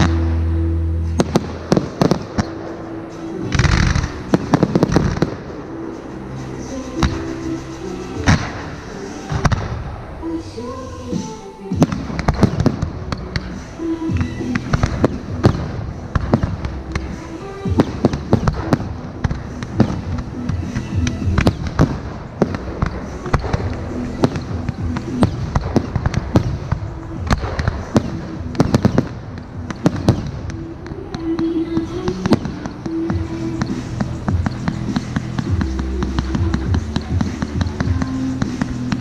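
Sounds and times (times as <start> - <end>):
fireworks bangs and crackles: 0.0 - 10.2, 11.1 - 39.0.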